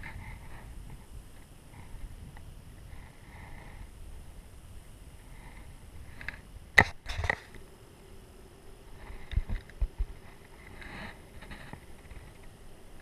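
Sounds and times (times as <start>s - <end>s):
rustle: 0.0s - 13.0s.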